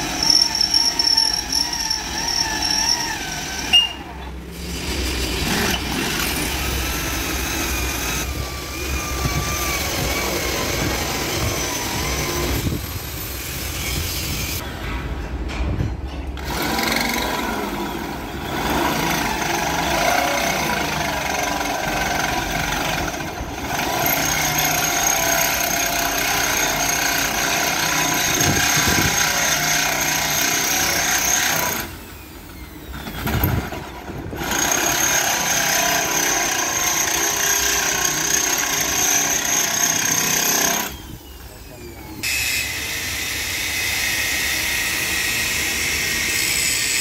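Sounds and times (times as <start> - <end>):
electric drill boring into steel: 0.0 - 3.9, 4.7 - 14.6, 16.4 - 47.0.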